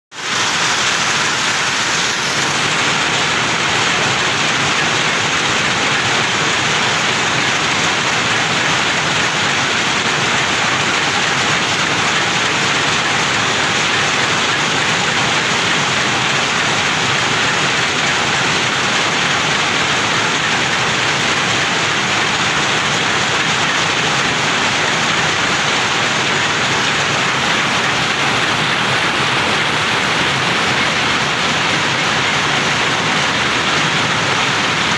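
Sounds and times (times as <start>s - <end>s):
weaving looms running: 0.1s - 34.9s.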